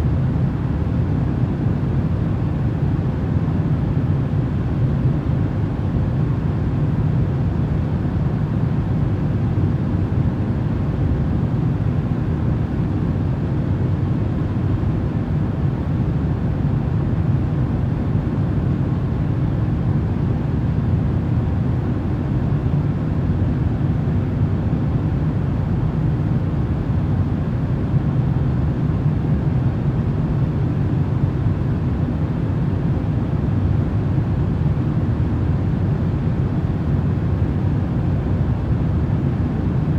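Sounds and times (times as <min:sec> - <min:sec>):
deep rushing white noise: 0:00.0 - 0:39.9.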